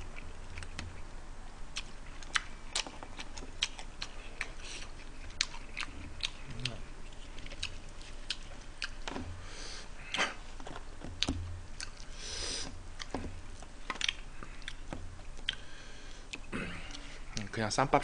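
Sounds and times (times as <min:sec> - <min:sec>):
chewing and mouth sounds: 0:00.0 - 0:01.1, 0:01.7 - 0:09.4, 0:10.0 - 0:17.5.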